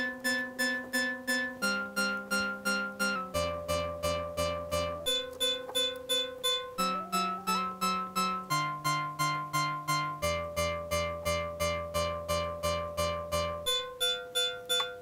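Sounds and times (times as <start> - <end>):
synthesizer plucky sequenced notes: 0.0 - 15.0.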